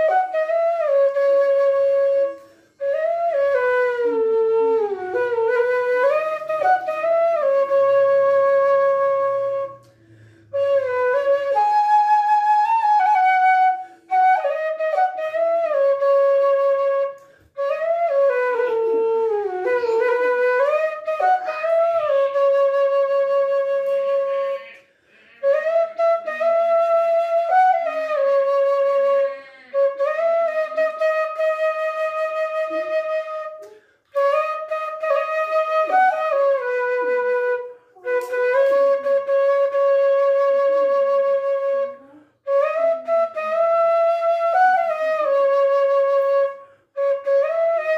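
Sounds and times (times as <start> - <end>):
bamboo flute melody: 0.0 - 47.9.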